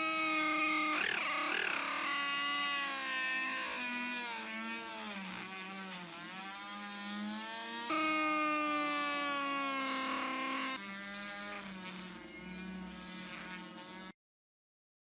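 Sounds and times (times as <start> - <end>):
power tool motor whining: 0.0 - 14.1.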